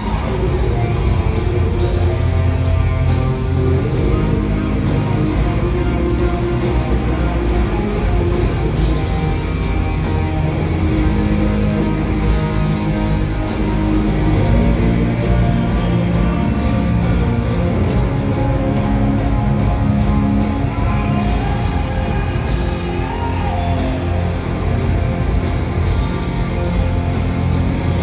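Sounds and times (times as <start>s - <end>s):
bass guitar: 0.0s - 28.0s
drums: 0.0s - 28.0s
electric guitars: 0.0s - 28.0s.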